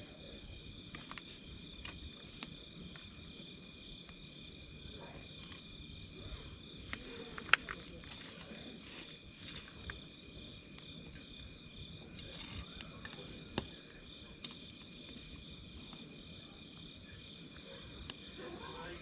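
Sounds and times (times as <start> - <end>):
campfire crackling: 0.0 - 19.0
insects chirring: 0.0 - 19.0.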